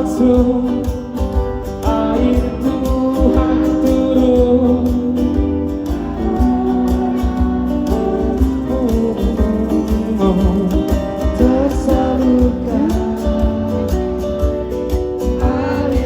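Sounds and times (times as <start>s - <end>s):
person singing: 0.0s - 16.0s
strummed acoustic guitar: 0.0s - 16.0s.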